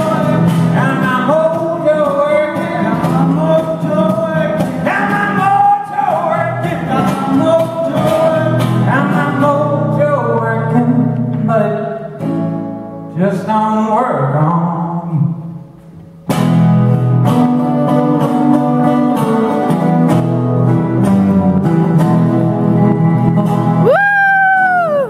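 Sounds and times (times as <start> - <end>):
acoustic guitars strumming: 0.0 - 24.7.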